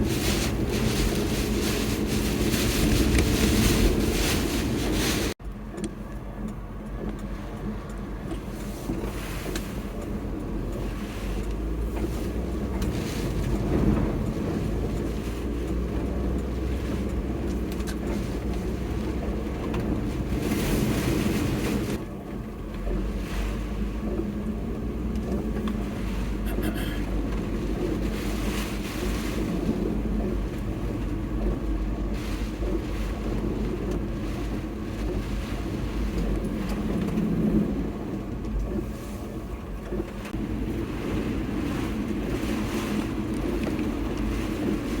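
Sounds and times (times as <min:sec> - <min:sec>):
wind gusting on microphone: 0:00.0 - 0:05.4, 0:07.6 - 0:22.0, 0:27.1 - 0:45.0
low engine-like rumble: 0:00.0 - 0:45.0.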